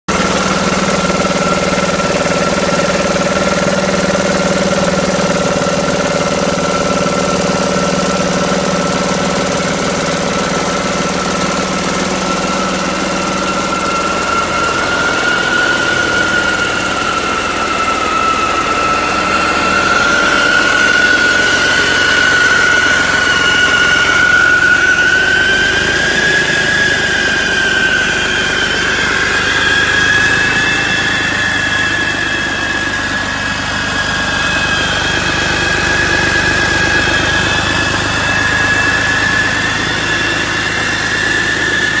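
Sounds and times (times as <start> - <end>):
diesel engine running: 0.1 - 42.0
high-pitched whine: 0.1 - 42.0.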